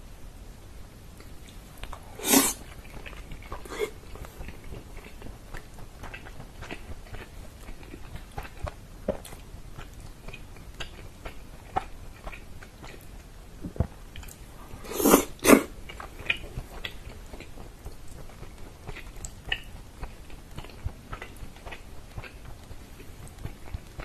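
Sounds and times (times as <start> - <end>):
chewing and biting: 1.5 - 13.2, 14.1 - 24.0.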